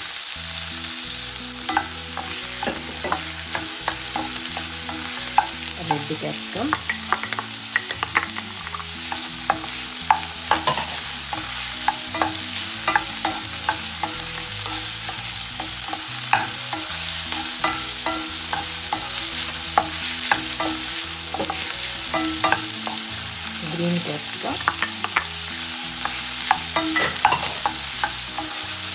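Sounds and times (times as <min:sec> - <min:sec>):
onions sizzling in hot oil: 0:00.0 - 0:28.9
spatula scraping a pan: 0:01.6 - 0:23.6, 0:24.3 - 0:28.9.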